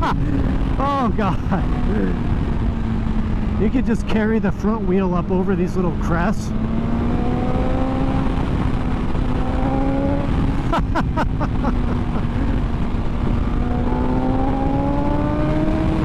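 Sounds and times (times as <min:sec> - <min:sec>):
heavy wind rush: 0:00.0 - 0:16.0
motorcycle engine accelerating: 0:00.0 - 0:16.0.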